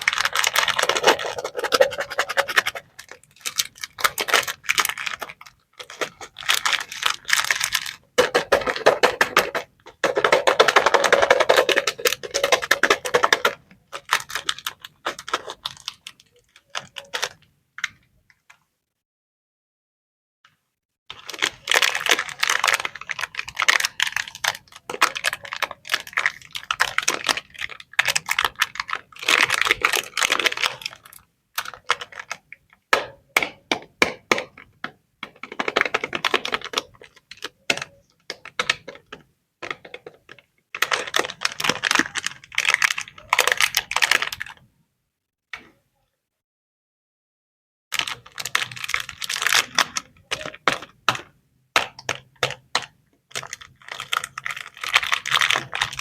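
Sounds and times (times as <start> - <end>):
snack wrappers crackling: 0.0 - 18.0, 21.1 - 32.8, 35.3 - 44.6, 47.9 - 56.0.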